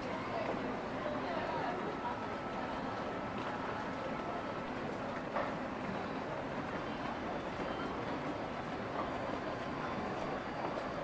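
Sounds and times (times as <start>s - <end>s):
murmur of people talking: 0.0s - 11.0s.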